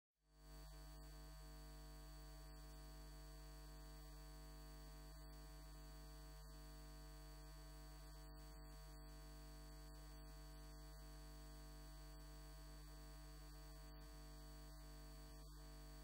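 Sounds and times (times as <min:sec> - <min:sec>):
electrical mains hum: 0:00.5 - 0:16.0.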